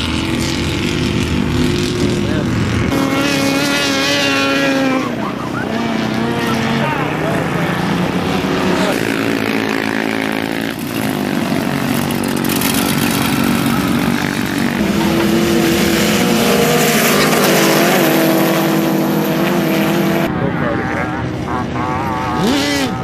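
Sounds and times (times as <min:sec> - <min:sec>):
golf cart engine running: 0:00.0 - 0:21.0.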